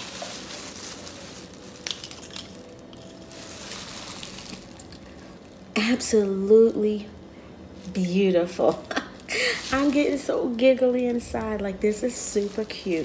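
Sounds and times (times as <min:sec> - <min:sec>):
plastic bag crinkling: 0:00.0 - 0:07.1, 0:07.7 - 0:13.0.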